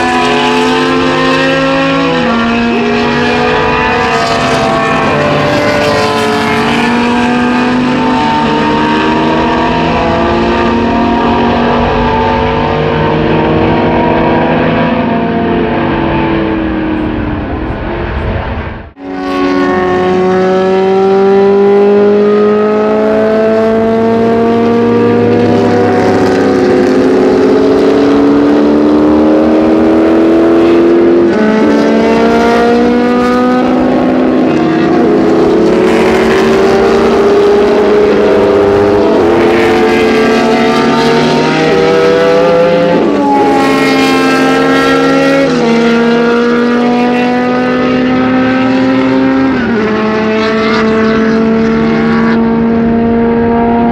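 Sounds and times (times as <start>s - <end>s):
racing car engines accelerating: 0.0s - 53.9s.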